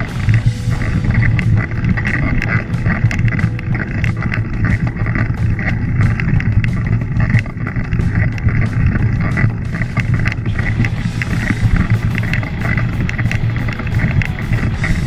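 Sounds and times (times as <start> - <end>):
bike rattling: 0.0 - 15.0
bike tyres crunching over stones: 0.0 - 15.0.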